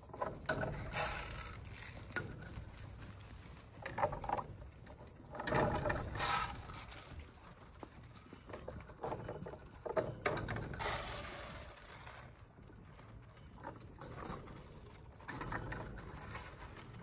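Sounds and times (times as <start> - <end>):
goats scuffling and clattering: 0.0 - 17.0.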